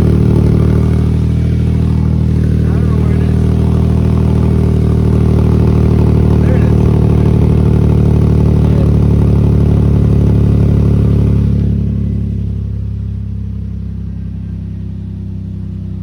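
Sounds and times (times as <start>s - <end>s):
car engine with exhaust leak: 0.0s - 16.0s.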